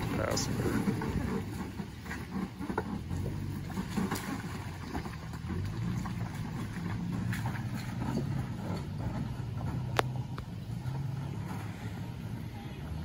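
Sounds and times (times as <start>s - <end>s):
truck engine at low revs: 0.0s - 13.0s.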